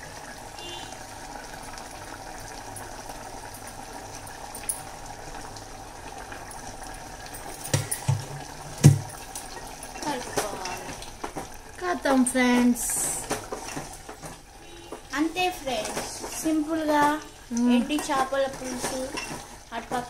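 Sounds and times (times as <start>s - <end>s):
curry bubbling in pot: 0.0s - 20.0s.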